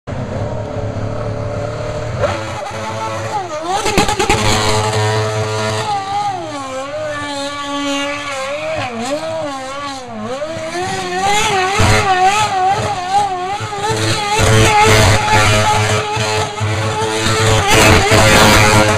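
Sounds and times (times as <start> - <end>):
racing car engine revving: 0.1 - 18.9.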